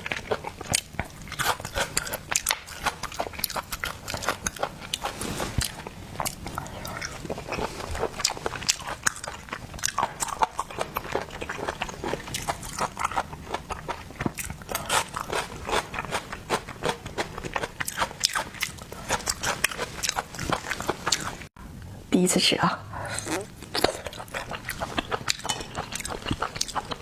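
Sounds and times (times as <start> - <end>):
person chewing seafood: 0.0 - 21.5, 23.0 - 27.0.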